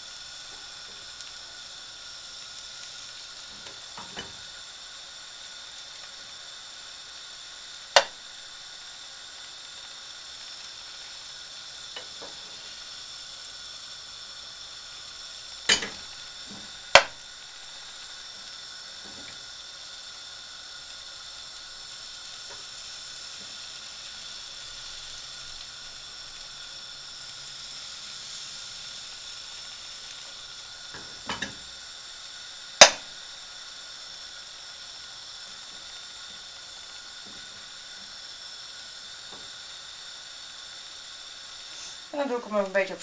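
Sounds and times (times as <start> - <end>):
eggs sizzling in a frying pan: 0.0 - 43.0.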